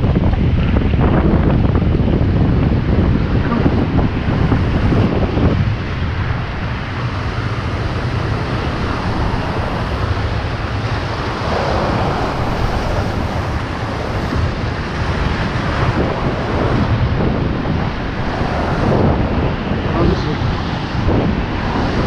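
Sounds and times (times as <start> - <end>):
surf breaking over boulders: 0.0 - 22.0
wind buffeting microphone: 0.0 - 22.0.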